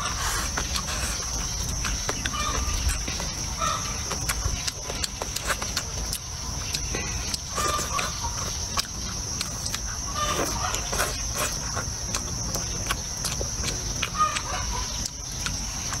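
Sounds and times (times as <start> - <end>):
chewing and crunching food: 0.0 - 16.0.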